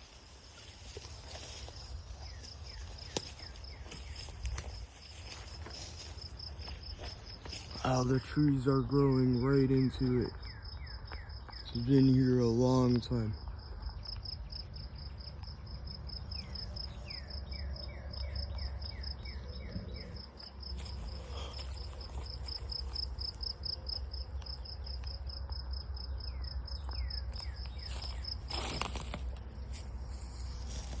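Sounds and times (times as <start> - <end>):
constant low rumble: 0.0 - 31.0.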